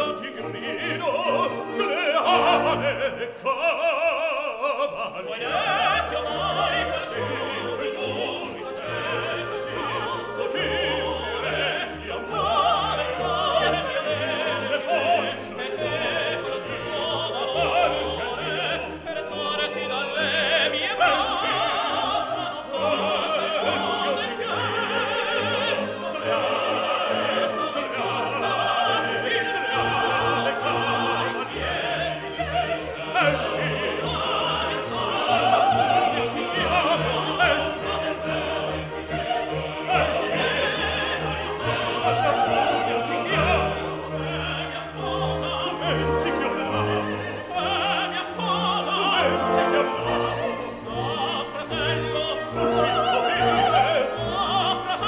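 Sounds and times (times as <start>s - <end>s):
operatic voice singing: 0.0s - 55.0s
orchestra playing: 0.0s - 55.0s.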